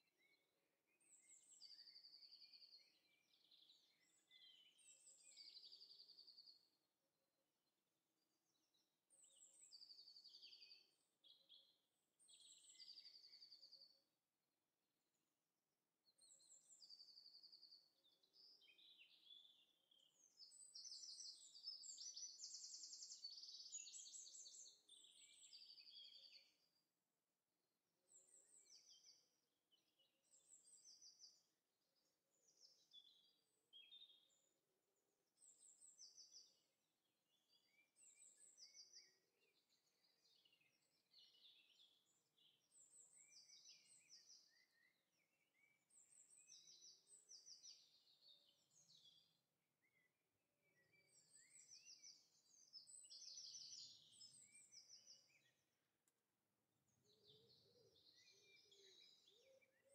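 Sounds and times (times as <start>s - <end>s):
faint birdsong: 0.0s - 59.9s.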